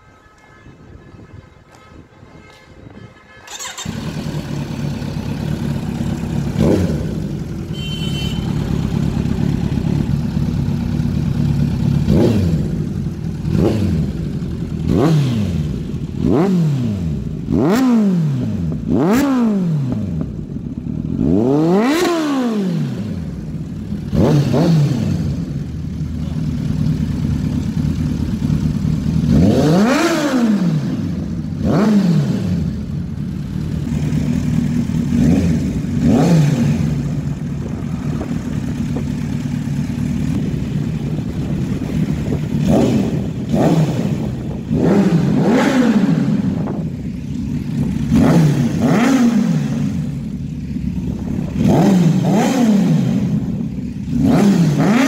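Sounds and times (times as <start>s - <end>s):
motorcycle engine revving: 3.4s - 55.0s.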